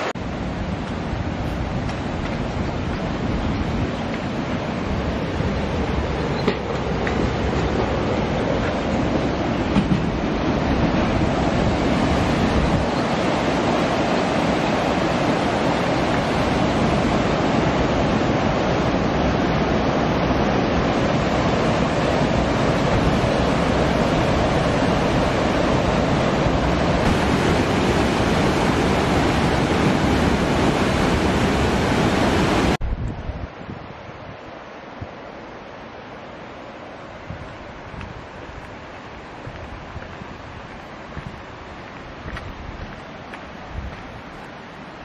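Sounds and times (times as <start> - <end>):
river rushing over rocks: 0.0 - 45.0.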